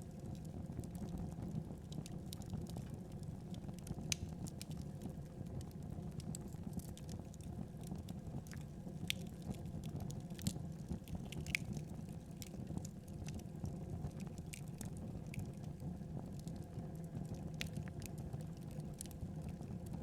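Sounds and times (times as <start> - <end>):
low fire rumble: 0.0 - 20.0
wood fire crackling and popping: 0.2 - 20.0.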